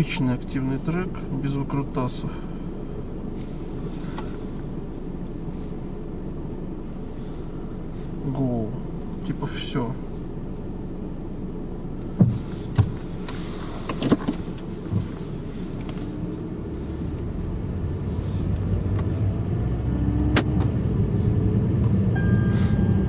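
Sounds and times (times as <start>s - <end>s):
engine and road rumble: 0.0s - 23.0s.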